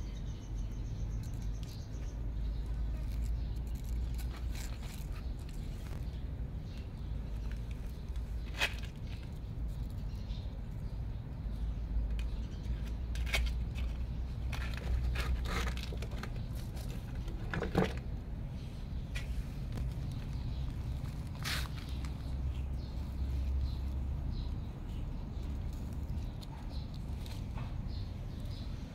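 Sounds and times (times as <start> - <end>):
cats scuffling on concrete: 0.9 - 28.9.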